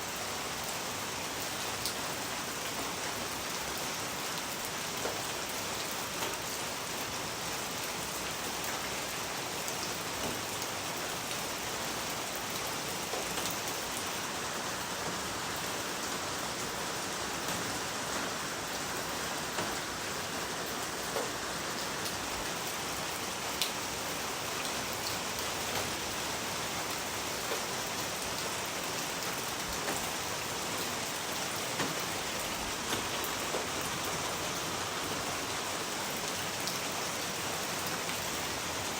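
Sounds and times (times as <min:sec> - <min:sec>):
rain pattering: 0:00.1 - 0:38.9.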